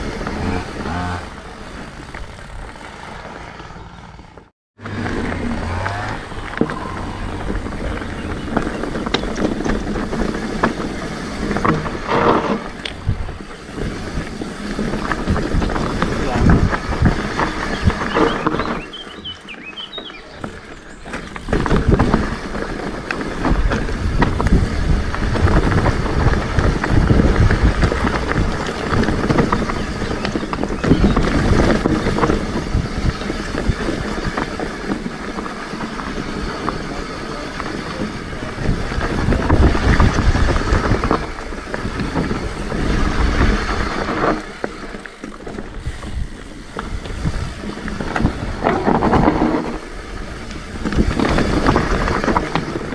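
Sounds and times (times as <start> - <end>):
bike knocks and rattles: 0.0 - 52.9
bike tyres crunching over gravel: 0.0 - 52.9
wind buffeting microphone: 0.0 - 52.9.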